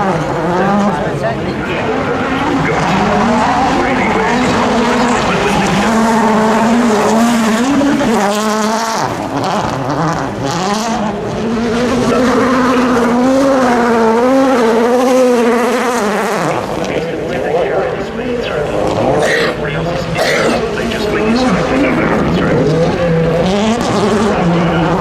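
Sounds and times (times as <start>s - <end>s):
rally car engine revving high: 0.0s - 25.0s.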